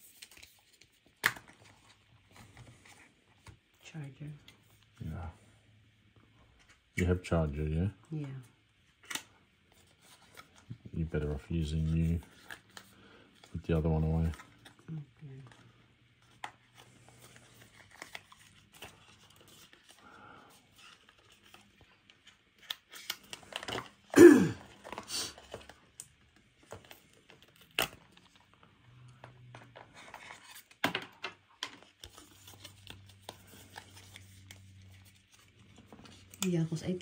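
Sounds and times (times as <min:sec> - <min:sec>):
paper and plastic rustling: 0:00.0 - 0:03.6, 0:09.0 - 0:37.0.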